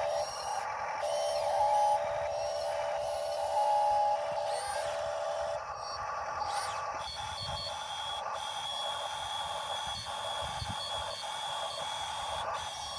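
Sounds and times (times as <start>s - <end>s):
electric motors whining: 0.0s - 12.9s.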